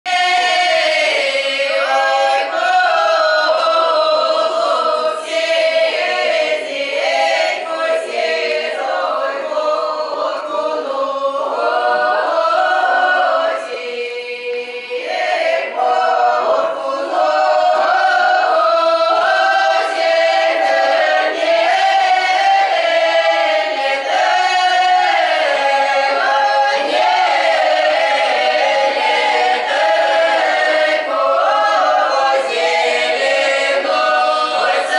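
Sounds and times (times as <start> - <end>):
mixed choir singing a cappella: 0.1 - 34.9.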